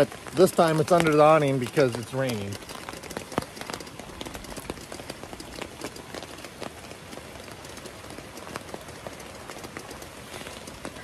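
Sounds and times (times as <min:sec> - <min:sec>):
drops ticking: 0:00.0 - 0:11.0
rain on fabric awning: 0:00.0 - 0:11.0.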